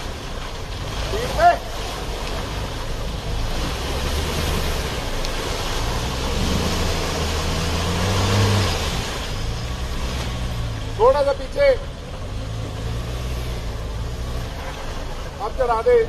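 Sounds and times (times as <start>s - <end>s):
engine running under load: 0.0s - 15.5s.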